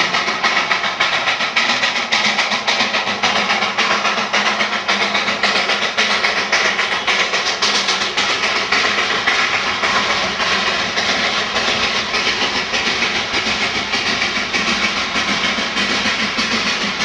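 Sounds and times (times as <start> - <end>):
steady steam hiss: 0.0 - 17.0
steam locomotive exhaust beats: 0.0 - 17.0.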